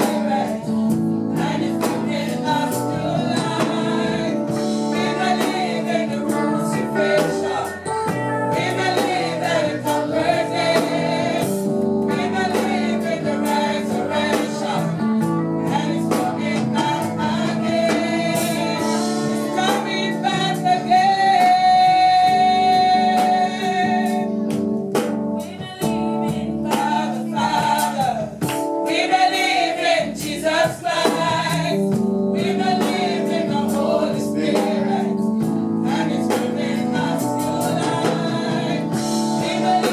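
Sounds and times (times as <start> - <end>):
choir singing gospel: 0.0 - 39.9
instrumental accompaniment: 0.0 - 39.9.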